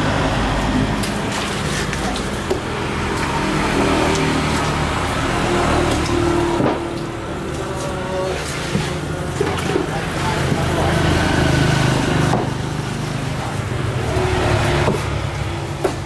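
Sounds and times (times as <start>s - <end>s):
motor engine running: 0.0s - 16.0s.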